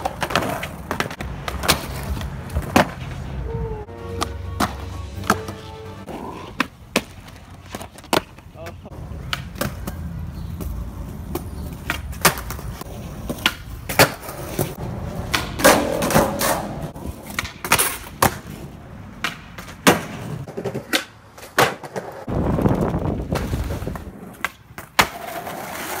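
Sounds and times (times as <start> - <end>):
skateboard clacks: 0.0 - 3.3, 6.6 - 26.0
skateboard wheels rolling on concrete: 0.0 - 26.0.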